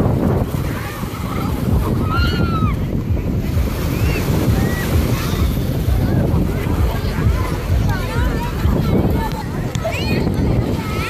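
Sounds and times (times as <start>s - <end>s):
small waves breaking: 0.0s - 11.0s
wind buffeting microphone: 0.0s - 11.0s
faint voices calling out: 0.5s - 3.2s, 3.8s - 11.0s.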